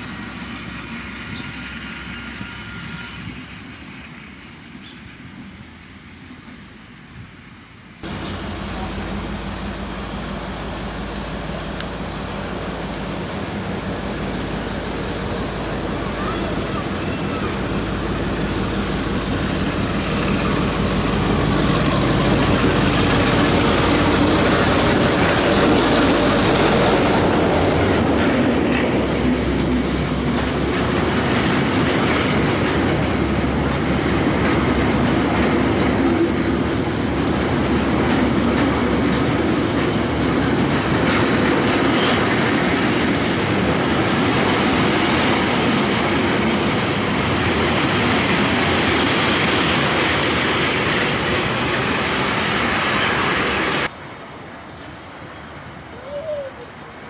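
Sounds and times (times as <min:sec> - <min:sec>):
train wheels clattering on track: 0:07.9 - 0:53.9.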